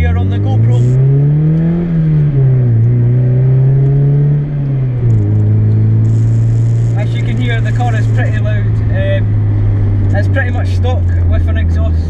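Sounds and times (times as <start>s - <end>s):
loud car exhaust note: 0.0s - 12.0s.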